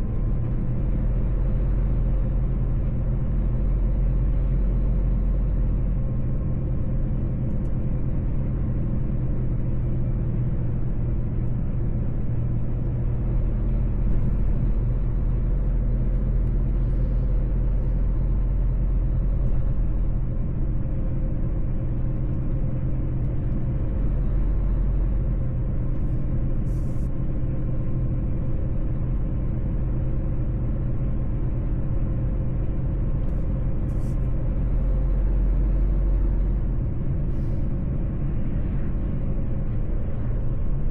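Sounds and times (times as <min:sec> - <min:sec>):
road rumble: 0:00.0 - 0:40.9
truck engine drone: 0:00.0 - 0:40.9.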